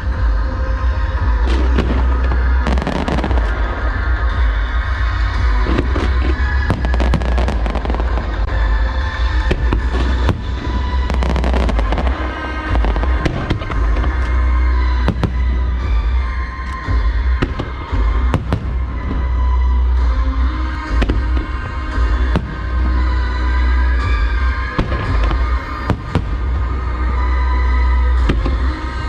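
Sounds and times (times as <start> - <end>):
deep rumble: 0.0 - 29.0
fireworks bangs and crackles: 0.0 - 29.0
music playing: 0.0 - 29.0.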